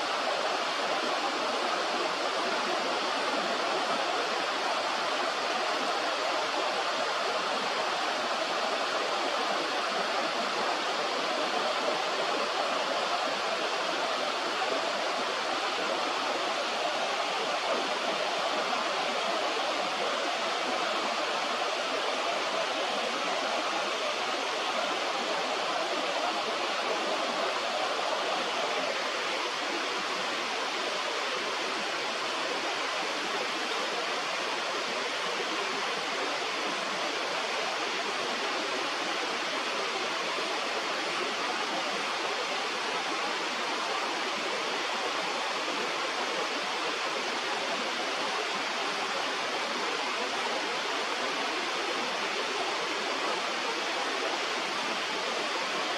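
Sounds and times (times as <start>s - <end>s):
river water flowing: 0.0s - 55.9s.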